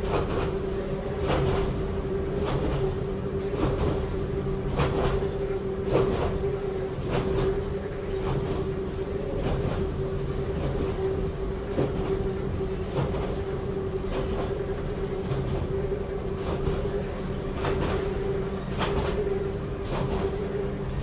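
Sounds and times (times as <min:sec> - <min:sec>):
steady motor hum: 0:00.0 - 0:21.0
wheels rumbling on rail: 0:00.0 - 0:21.0.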